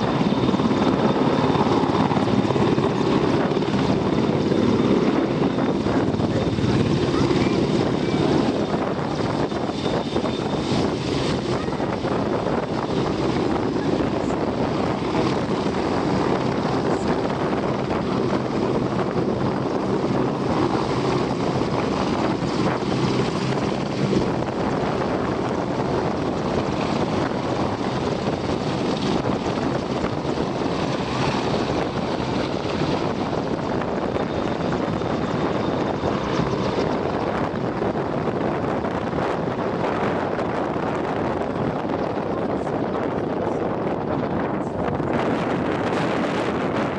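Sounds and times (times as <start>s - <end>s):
helicopter in flight: 0.0s - 46.9s.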